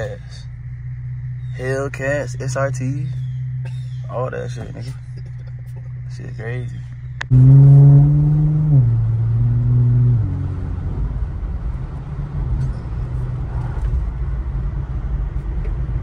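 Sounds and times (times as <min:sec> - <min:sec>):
car engine accelerating: 0:00.0 - 0:16.0
road noise: 0:00.0 - 0:16.0.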